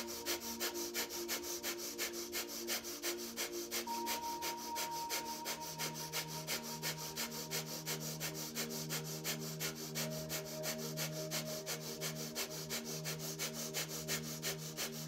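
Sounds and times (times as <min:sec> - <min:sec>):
rapid forceful nose breathing: 0:00.0 - 0:15.0
soft background music: 0:00.0 - 0:15.0.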